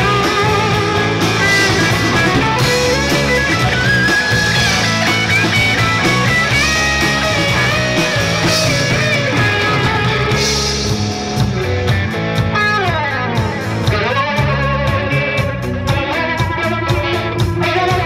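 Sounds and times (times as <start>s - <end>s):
drum kit: 0.0s - 18.0s
guitars: 0.0s - 18.0s.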